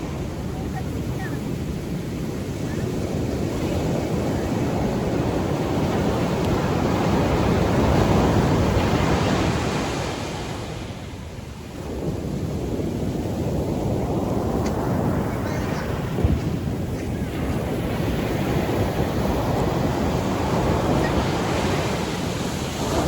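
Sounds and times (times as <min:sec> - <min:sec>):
ocean surf on beach: 0:00.0 - 0:23.0
wind rumbling on microphone: 0:00.0 - 0:23.0.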